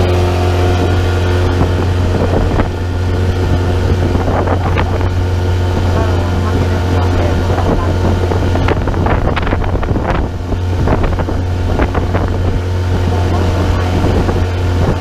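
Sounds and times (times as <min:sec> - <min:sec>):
engine droning: 0:00.0 - 0:15.0
wind buffeting microphone: 0:00.0 - 0:15.0.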